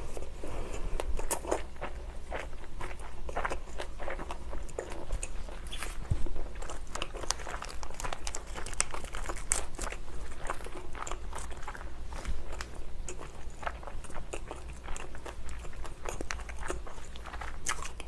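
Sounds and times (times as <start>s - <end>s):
chewing pizza: 0.0s - 18.0s.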